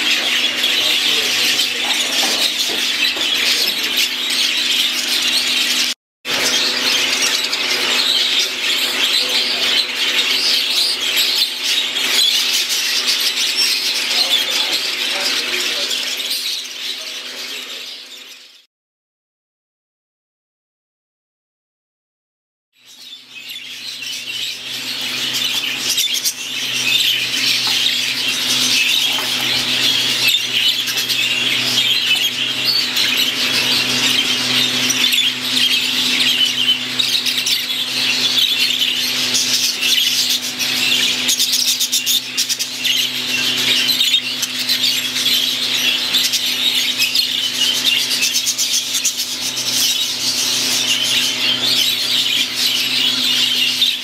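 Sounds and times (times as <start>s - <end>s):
budgerigars chattering and chirping: 0.0s - 18.6s, 22.8s - 54.0s.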